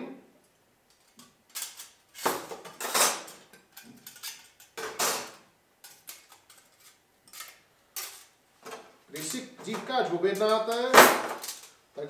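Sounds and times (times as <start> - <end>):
metallic clatters: 0.9 - 11.8
metal plates clinking and scraping: 1.0 - 11.8.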